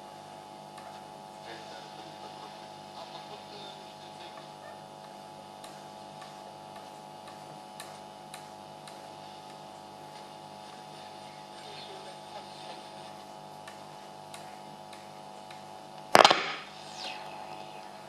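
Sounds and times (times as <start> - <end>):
radio crackles: 0.0 - 18.0
radio hiss and hum: 0.0 - 18.0.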